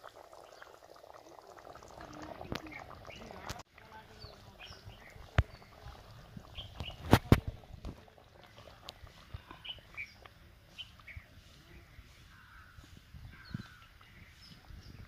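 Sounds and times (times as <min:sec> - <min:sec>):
outdoor ambience: 0:00.0 - 0:15.0.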